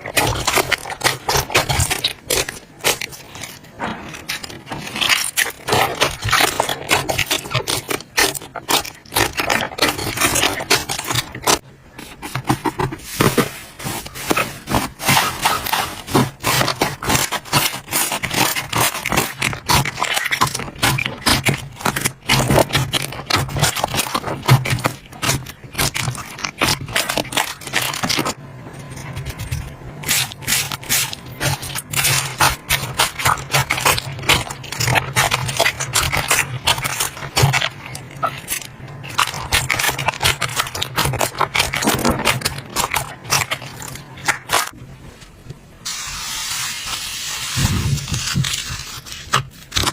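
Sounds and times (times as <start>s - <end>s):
slime crackling and popping: 0.0s - 11.6s, 14.7s - 28.4s, 29.1s - 44.8s.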